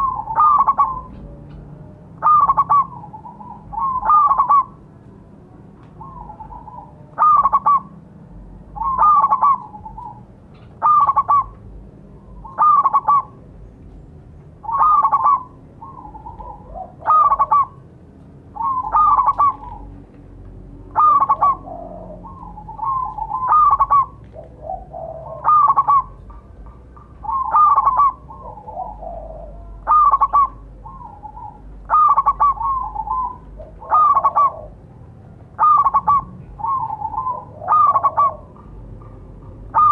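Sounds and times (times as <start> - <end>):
dove cooing: 0.0 - 5.0, 5.8 - 13.7, 14.6 - 20.0, 20.8 - 39.9.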